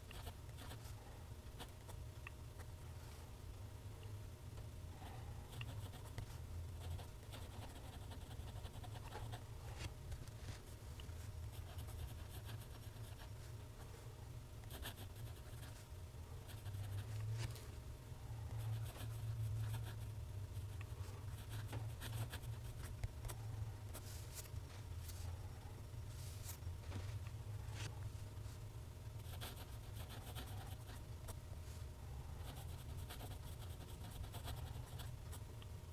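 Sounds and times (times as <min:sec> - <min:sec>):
low hum: 0:00.0 - 0:35.9.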